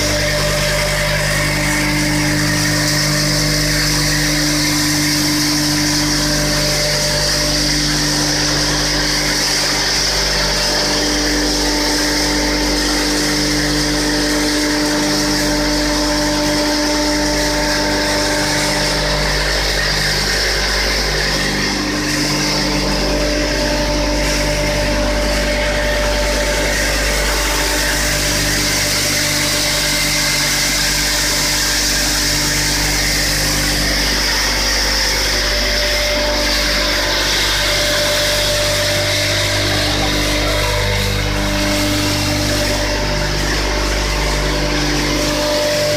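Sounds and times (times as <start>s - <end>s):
machine drone with blower fan: 0.0s - 45.9s.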